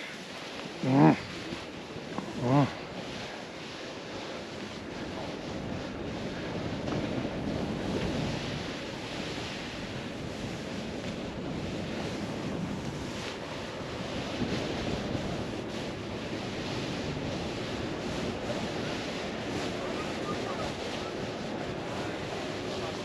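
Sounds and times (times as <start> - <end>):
snowboard sliding over snow: 0.0 - 23.0
wind on microphone: 0.0 - 23.0.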